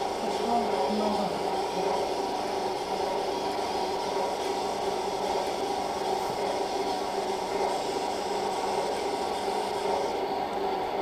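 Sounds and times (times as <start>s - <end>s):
medical equipment hum and hiss: 0.0s - 11.0s.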